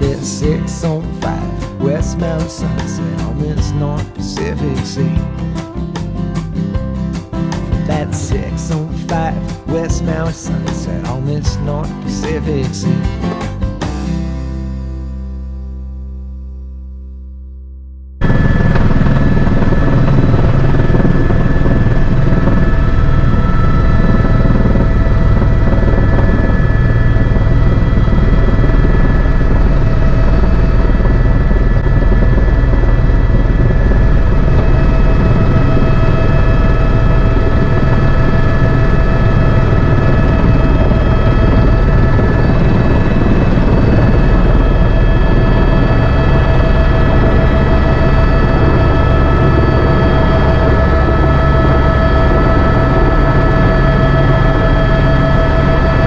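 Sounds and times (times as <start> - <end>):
helicopter rotor and engine rumble: 0.0 - 14.5, 18.2 - 56.0
high turbine whine: 0.0 - 15.2, 18.2 - 56.0.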